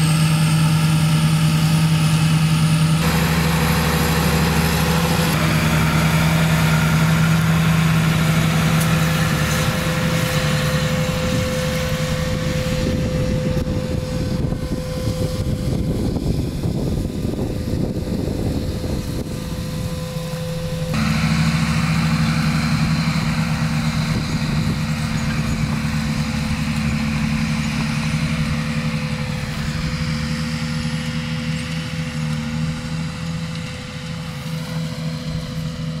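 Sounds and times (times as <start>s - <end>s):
tractor diesel engine droning: 0.0s - 36.0s.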